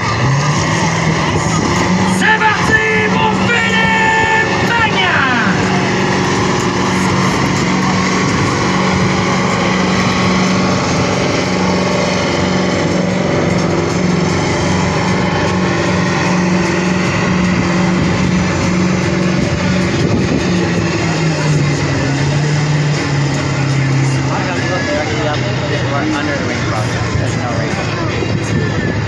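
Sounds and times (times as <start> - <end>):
tractor engine at high revs: 0.0 - 29.0.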